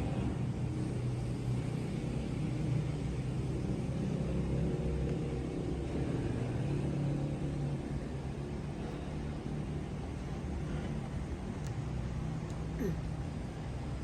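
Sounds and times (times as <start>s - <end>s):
low mechanical hum and rumble: 0.0s - 14.0s.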